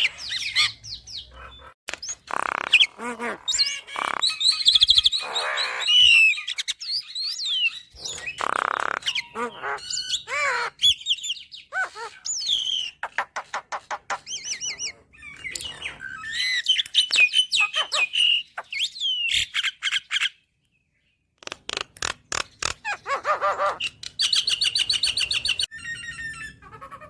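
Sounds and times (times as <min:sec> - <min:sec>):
bird singing: 0:00.0 - 0:27.0.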